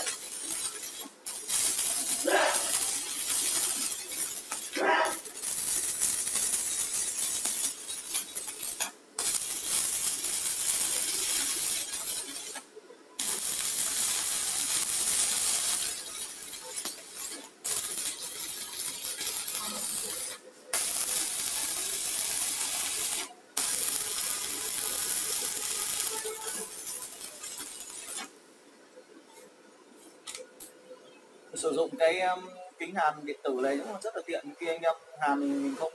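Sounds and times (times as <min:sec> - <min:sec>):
welding arc crackling and sizzling: 0:00.0 - 0:32.2.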